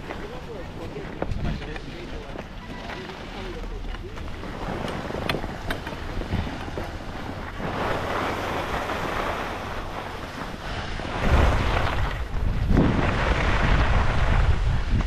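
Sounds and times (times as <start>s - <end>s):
skis scraping over snow: 0.0s - 15.0s
wind buffeting microphone: 0.0s - 15.0s.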